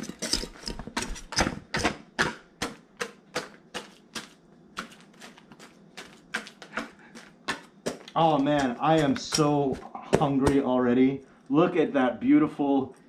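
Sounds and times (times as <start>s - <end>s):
batter stirred in bowl: 0.0s - 10.7s.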